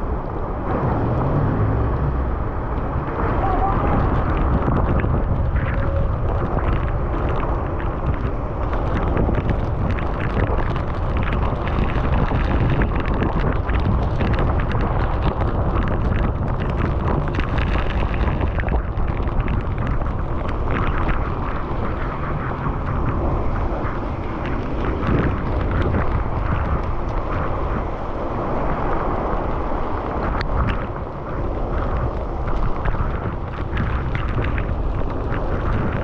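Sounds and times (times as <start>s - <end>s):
wind rumbling on microphone: 0.0s - 36.0s.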